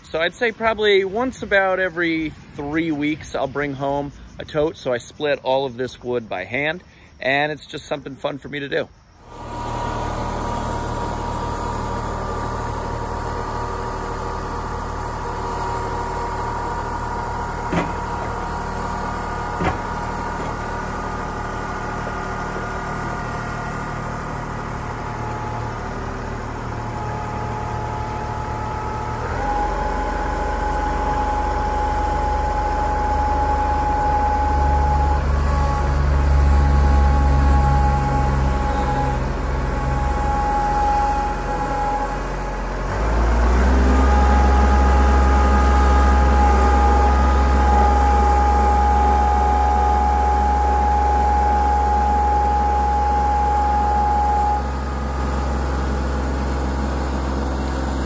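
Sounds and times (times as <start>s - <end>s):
tractor diesel engine running: 9.2s - 58.0s.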